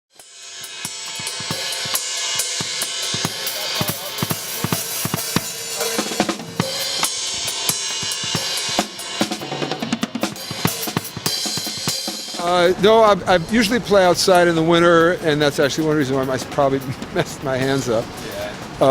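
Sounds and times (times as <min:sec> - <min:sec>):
cymbals washing: 0:00.1 - 0:18.9.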